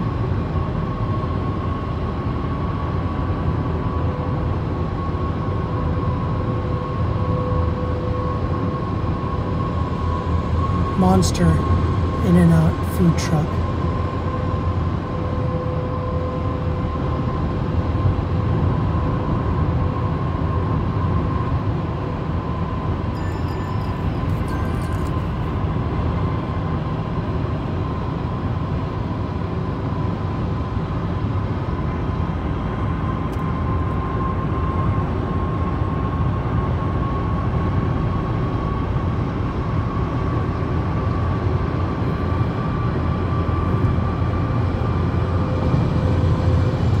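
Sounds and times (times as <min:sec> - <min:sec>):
engine and tyre rumble: 0:00.0 - 0:47.0
thin steady whine: 0:00.0 - 0:47.0.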